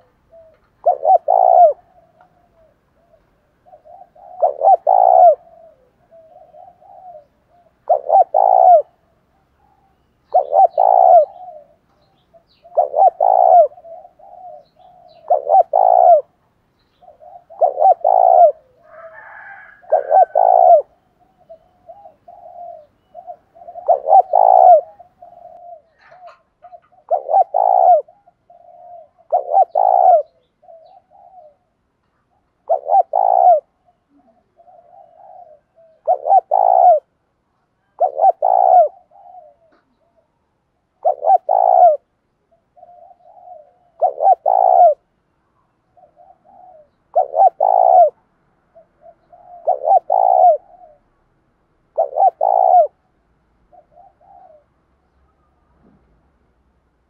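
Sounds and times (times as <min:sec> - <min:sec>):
dove cooing: 0:00.0 - 0:45.1, 0:45.8 - 0:51.2, 0:51.9 - 0:55.2.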